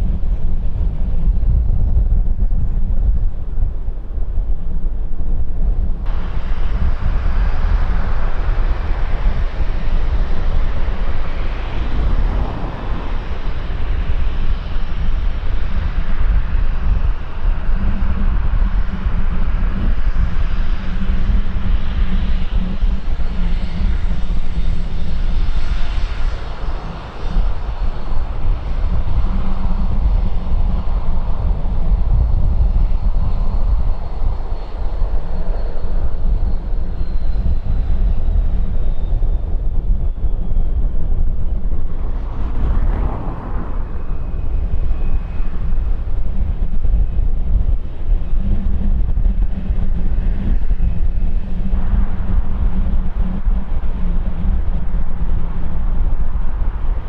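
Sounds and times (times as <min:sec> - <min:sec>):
airliner engines rumbling: 0:00.0 - 0:57.0.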